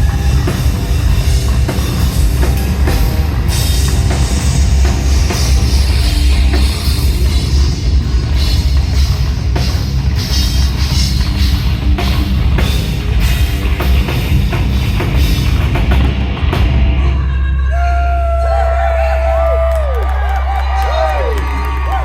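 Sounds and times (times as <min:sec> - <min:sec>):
live rock band playing: 0:00.0 - 0:17.9
heavy bass: 0:00.0 - 0:22.0
pounding drum kit: 0:00.0 - 0:22.0.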